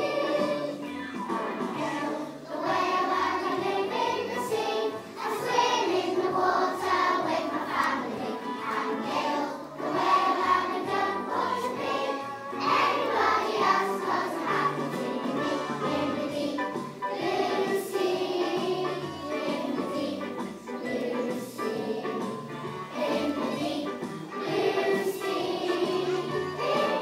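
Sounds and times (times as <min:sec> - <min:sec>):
children singing together: 0:00.0 - 0:00.9, 0:01.7 - 0:27.0
instrumental accompaniment: 0:00.0 - 0:27.0.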